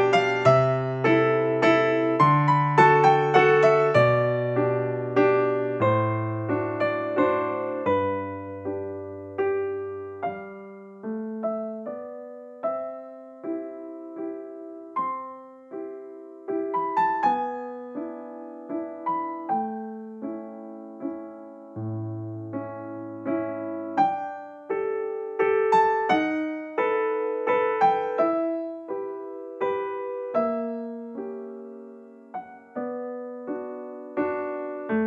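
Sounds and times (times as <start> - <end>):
slow keyboard melody: 0.0 - 35.0.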